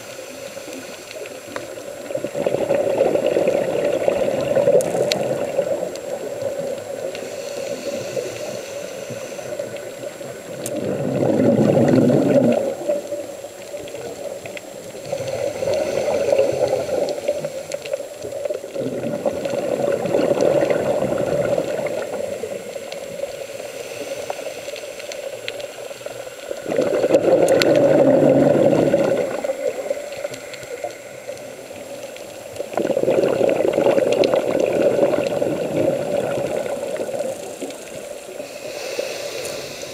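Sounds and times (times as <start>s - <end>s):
bubbling exhaled air underwater: 0.0s - 39.9s
steady low hiss: 0.0s - 39.9s.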